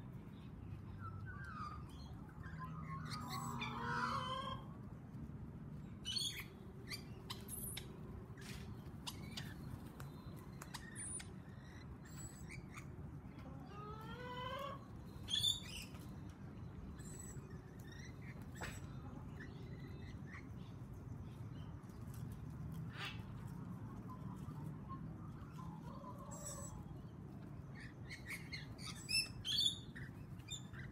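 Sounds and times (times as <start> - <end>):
birds chirping and calling: 0.0 - 4.8, 5.8 - 30.9.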